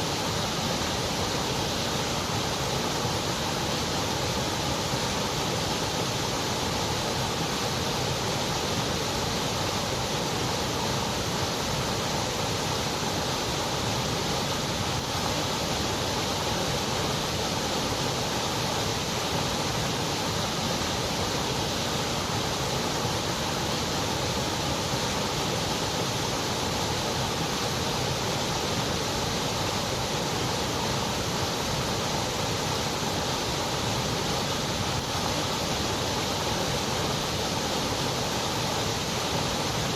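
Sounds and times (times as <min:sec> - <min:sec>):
continuous white noise hiss: 0:00.0 - 0:39.9.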